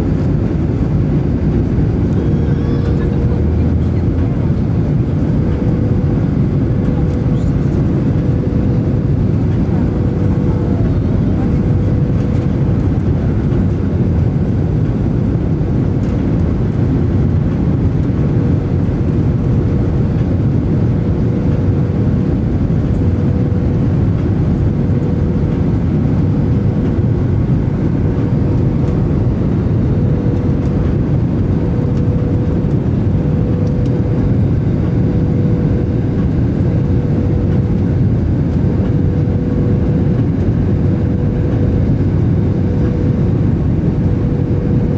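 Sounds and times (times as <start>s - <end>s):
jet engines and rushing air: 0.0s - 44.9s.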